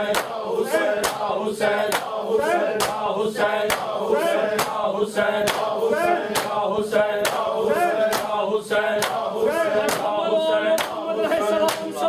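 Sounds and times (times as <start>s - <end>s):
hands slapping chests: 0.0s - 8.4s, 9.0s - 10.2s, 10.8s - 12.0s
men chanting in unison: 0.0s - 12.0s.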